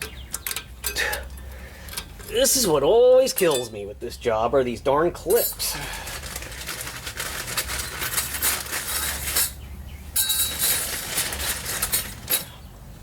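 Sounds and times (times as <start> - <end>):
metal clips clinking: 0.0 - 3.8, 5.3 - 9.6, 10.2 - 12.6.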